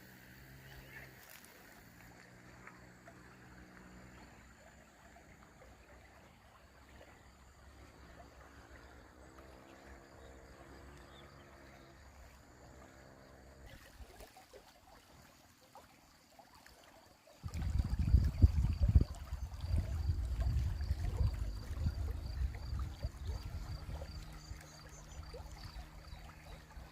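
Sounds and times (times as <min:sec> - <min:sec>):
river flowing: 0:00.0 - 0:26.9.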